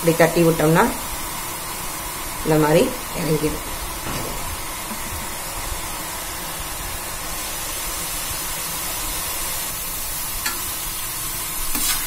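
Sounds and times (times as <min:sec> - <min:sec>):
batter deep-frying in oil: 0:00.0 - 0:12.0.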